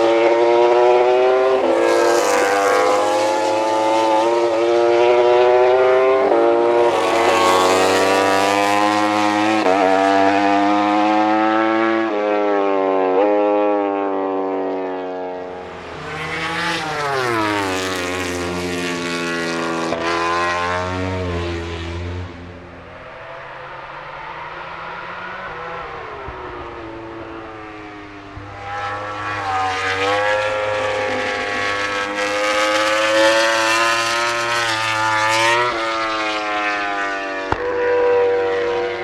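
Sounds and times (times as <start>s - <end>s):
racing motorcycle engine revving: 0.0s - 39.0s.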